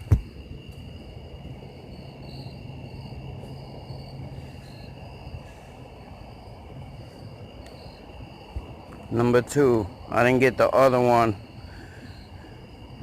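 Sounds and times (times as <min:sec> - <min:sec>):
insects trilling: 0:00.0 - 0:13.0
low outdoor rumble: 0:00.0 - 0:13.0.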